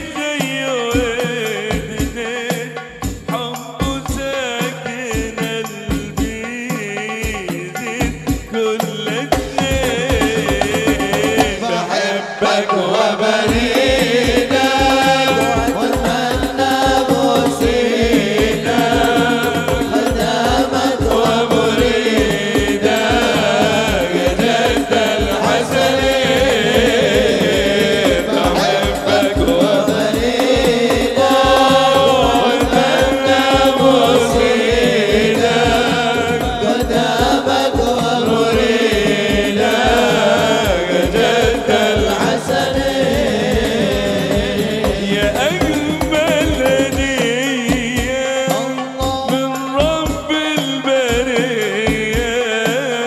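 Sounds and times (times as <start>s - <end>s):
frame drums and bass drums: 0.0s - 11.7s, 13.3s - 53.0s
men singing devotional song: 0.0s - 53.0s.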